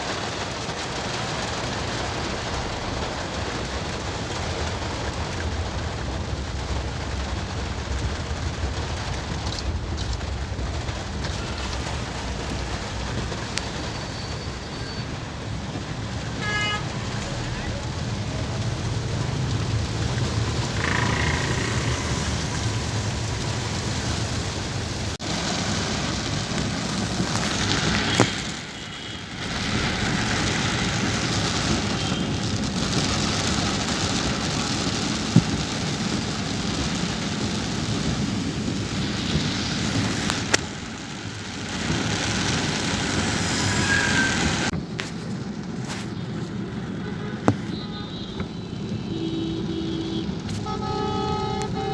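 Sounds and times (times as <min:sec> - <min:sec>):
heavy rain pelting a car: 0:00.0 - 0:51.9
vehicle road noise: 0:00.0 - 0:51.9.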